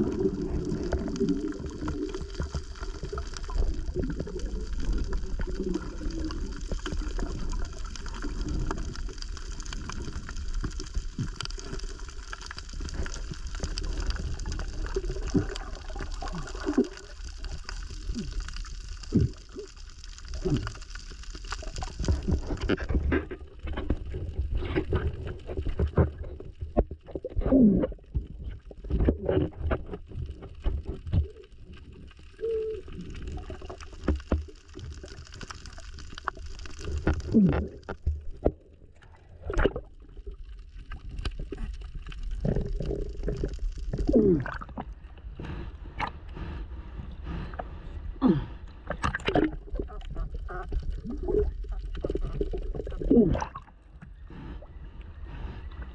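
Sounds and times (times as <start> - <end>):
underwater air bubbling: 0.0 - 55.9.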